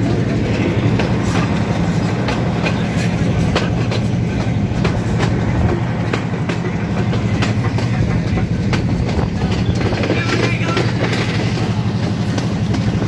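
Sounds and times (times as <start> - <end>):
train rumbling: 0.0 - 13.0
wheels clattering over rail joints: 0.0 - 13.0.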